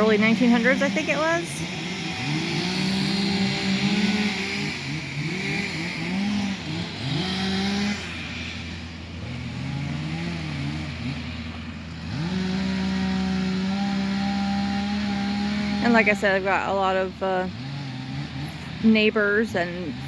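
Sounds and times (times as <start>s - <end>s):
car engine hum: 0.0s - 20.0s.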